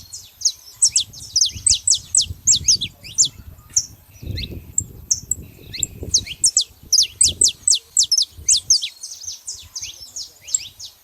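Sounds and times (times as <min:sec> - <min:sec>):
finches calling: 0:00.0 - 0:11.0.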